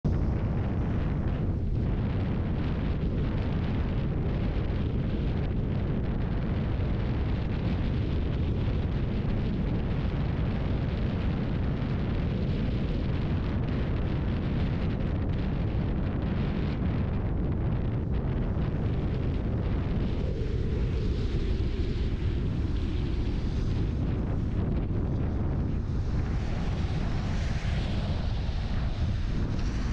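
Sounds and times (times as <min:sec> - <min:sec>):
car road and wind noise: 0:00.0 - 0:29.9.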